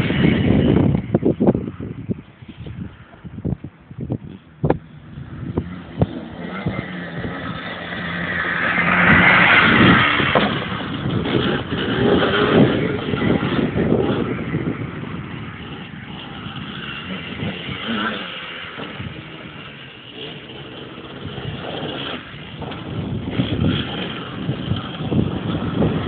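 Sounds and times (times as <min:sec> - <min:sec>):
two-stroke engine revving: 0:04.2 - 0:26.0.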